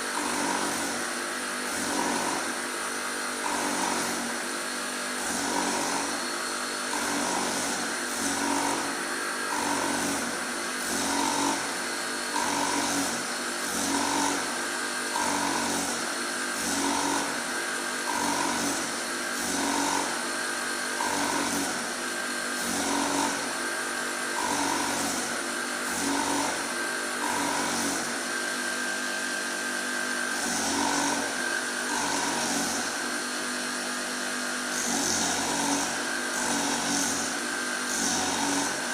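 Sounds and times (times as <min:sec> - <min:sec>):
surface grinder whining: 0:00.0 - 0:38.9.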